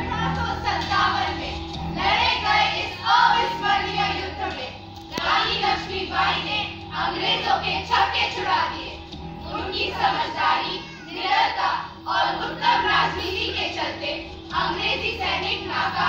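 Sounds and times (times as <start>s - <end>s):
backing music: 0.0s - 16.0s
girls' chorus singing: 0.0s - 16.0s.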